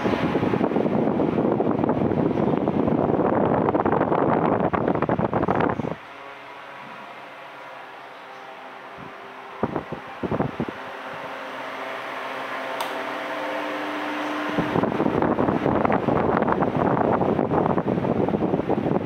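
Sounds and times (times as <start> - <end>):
fan clicks: 0.0 - 6.2, 8.1 - 19.0
air buffeting the microphone: 0.0 - 19.0
fan motor hum: 0.0 - 19.0.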